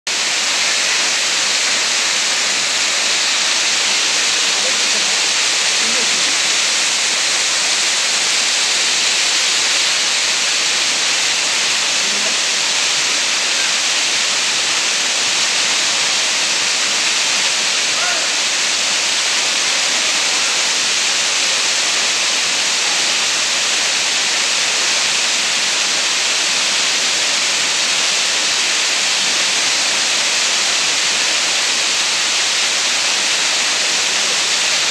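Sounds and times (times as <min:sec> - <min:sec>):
waterfall rushing over rocks: 0:00.1 - 0:34.9.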